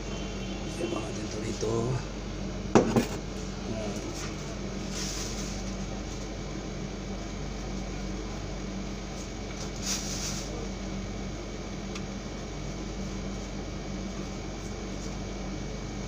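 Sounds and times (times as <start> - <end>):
air conditioner hum: 0.0 - 16.0.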